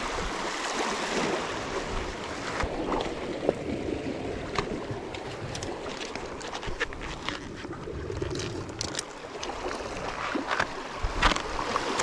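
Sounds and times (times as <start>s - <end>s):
water: 0.0s - 12.0s
wind: 0.0s - 12.0s.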